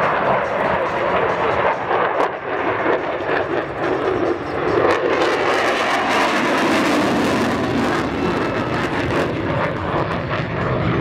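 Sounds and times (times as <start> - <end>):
jet engine roaring: 0.0 - 11.0.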